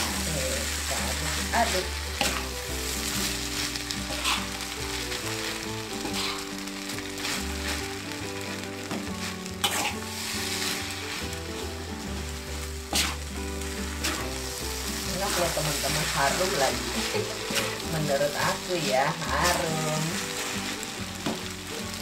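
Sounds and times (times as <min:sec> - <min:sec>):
rice sizzling in a wok: 0:00.0 - 0:22.0.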